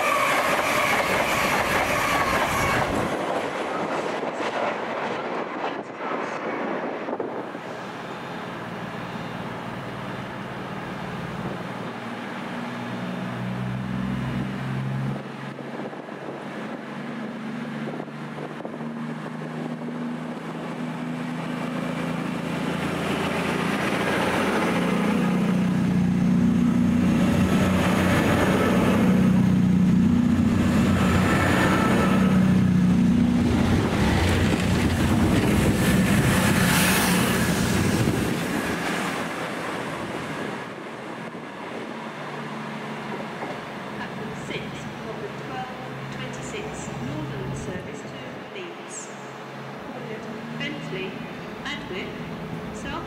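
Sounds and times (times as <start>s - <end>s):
train diesel engines droning: 0.0s - 53.0s.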